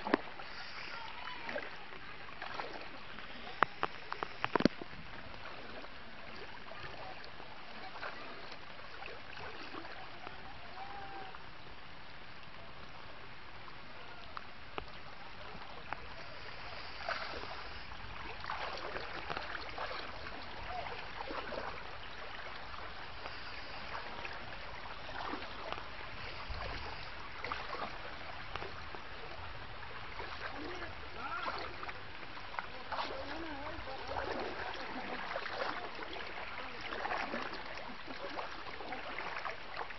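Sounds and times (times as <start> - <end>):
water splashes and knocks: 0.0 - 0.4, 1.2 - 11.1, 16.8 - 39.9
floodwater running: 0.0 - 39.9.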